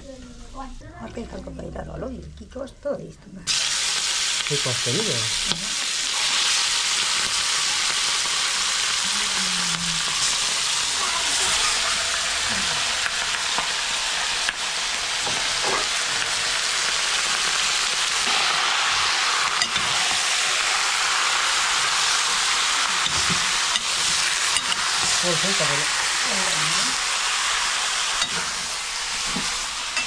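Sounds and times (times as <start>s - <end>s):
food sizzling in a pan: 3.5s - 30.0s.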